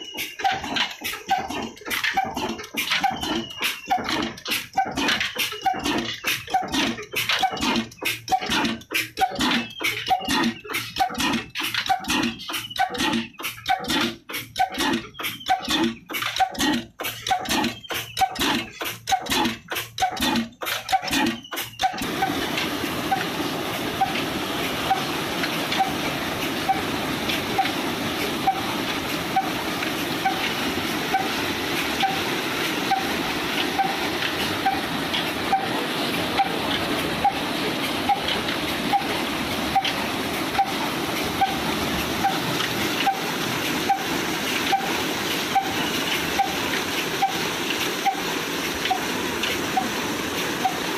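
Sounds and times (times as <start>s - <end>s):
slow diesel engine beat: 0.0s - 50.9s
water gushing into a tank: 0.0s - 50.9s.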